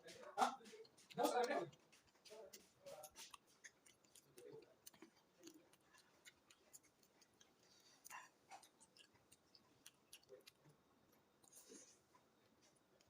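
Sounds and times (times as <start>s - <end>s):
chewing clicks and smacks: 0.0s - 13.0s.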